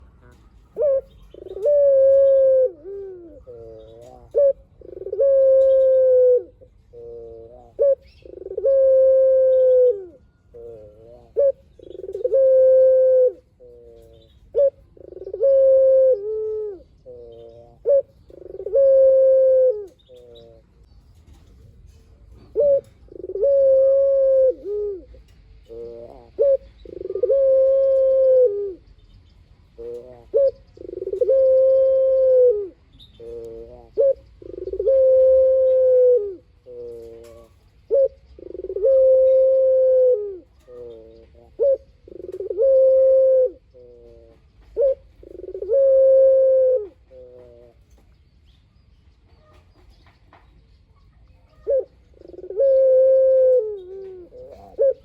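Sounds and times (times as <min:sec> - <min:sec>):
dove cooing: 0:00.0 - 0:29.0, 0:29.6 - 0:48.0, 0:51.0 - 0:55.0.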